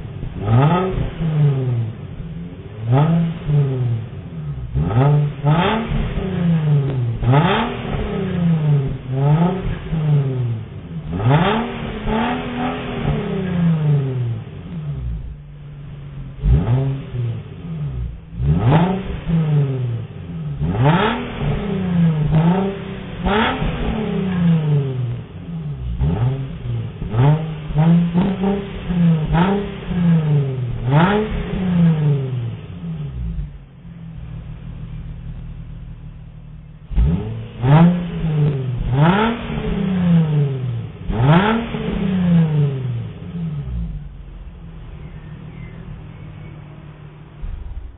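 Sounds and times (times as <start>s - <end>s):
car engine idling: 0.0s - 47.9s
car engine revving: 0.0s - 47.9s.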